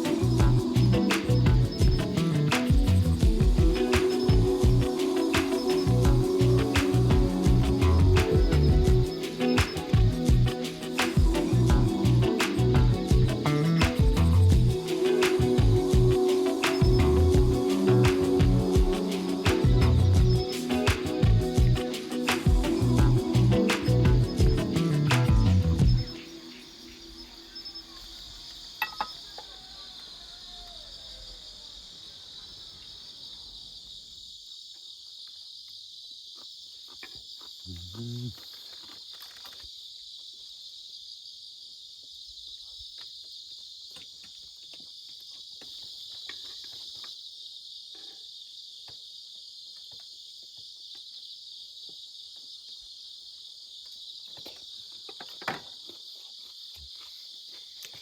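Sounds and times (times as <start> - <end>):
crickets and night insects chirping: 0.0 - 58.0.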